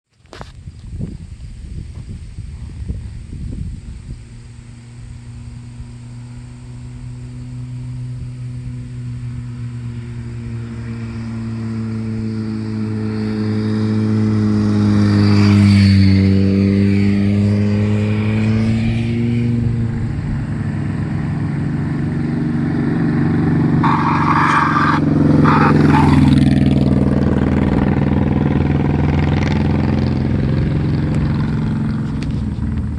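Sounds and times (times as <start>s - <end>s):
motorcycle engines running: 0.3s - 32.9s.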